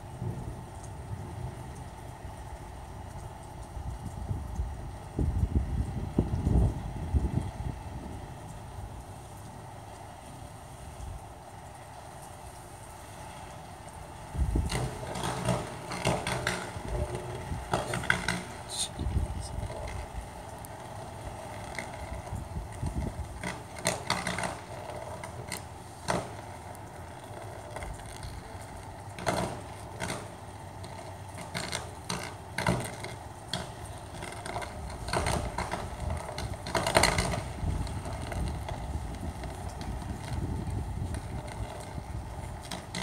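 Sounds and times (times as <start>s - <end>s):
electrical arcing crackles and snaps: 0.0s - 43.0s.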